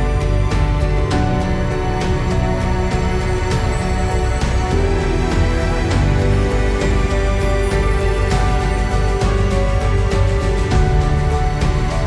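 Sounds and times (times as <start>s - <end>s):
music with sustained notes: 0.0s - 12.0s.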